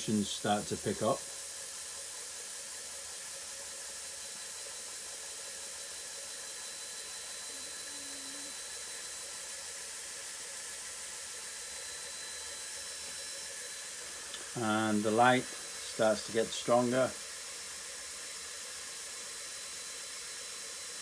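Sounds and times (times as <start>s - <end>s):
motor hissing with high whine: 3.9s - 21.0s.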